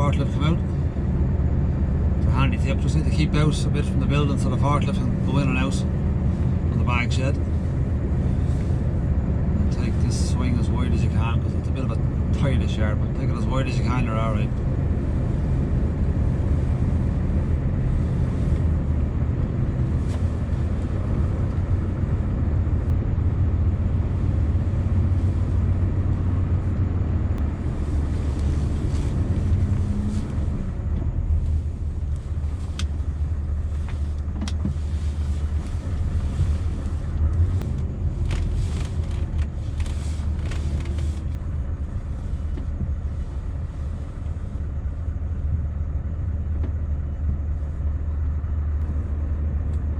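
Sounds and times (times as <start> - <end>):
diesel truck engine running: 0.0 - 49.9.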